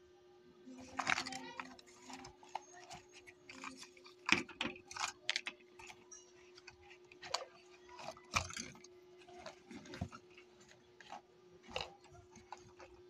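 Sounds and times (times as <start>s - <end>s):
faint steady hum: 0.0s - 13.0s
plastic parts clicking and knocking: 0.8s - 13.0s.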